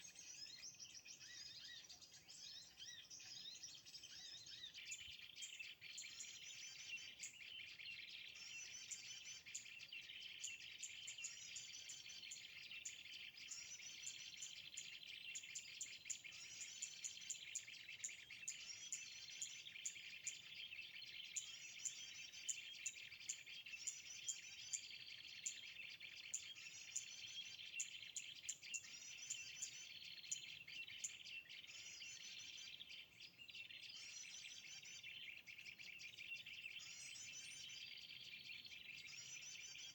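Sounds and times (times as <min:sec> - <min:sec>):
small birds singing: 0:00.0 - 0:39.9.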